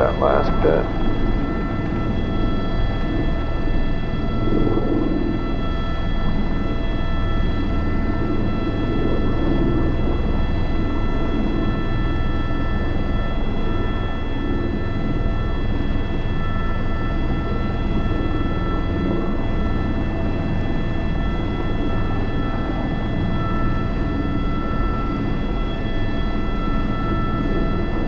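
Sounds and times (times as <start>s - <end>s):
helicopter rotor and engine rumble: 0.0s - 28.0s.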